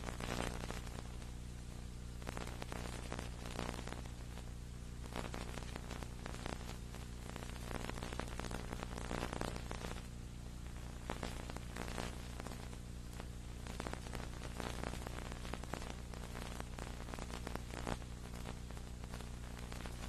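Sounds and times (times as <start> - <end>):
crackling static hiss: 0.0 - 20.0
electrical hum: 0.0 - 20.0.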